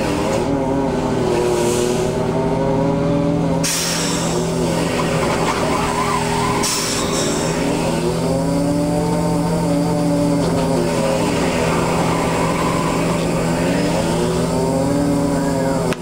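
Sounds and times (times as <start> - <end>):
boat engine and hauler drone: 0.0 - 16.0.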